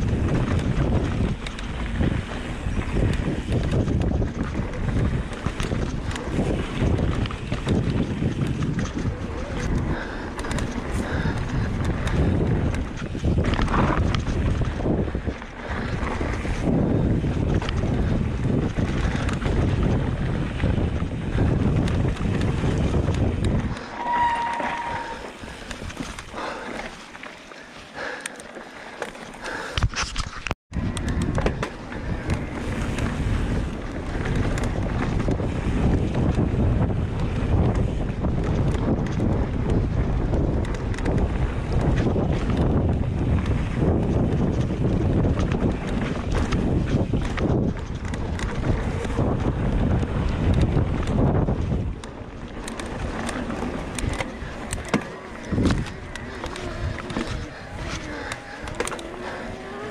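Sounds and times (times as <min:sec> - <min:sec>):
wind buffeting microphone: 0:00.0 - 0:27.0, 0:27.9 - 0:59.9
bike rattles and clicks: 0:00.0 - 0:59.9
bike tyres rolling on dirt: 0:00.0 - 0:59.9.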